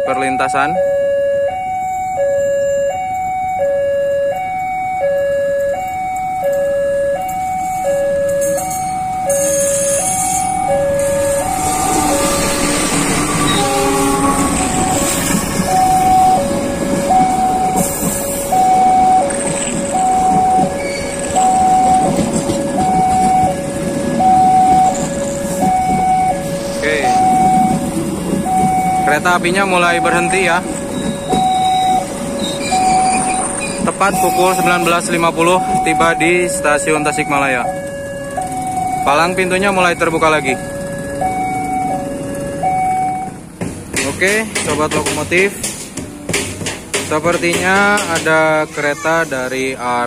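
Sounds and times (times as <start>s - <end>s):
two-tone crossing alarm: 0.0s - 43.5s
train carriages rumbling on rails: 5.7s - 50.0s.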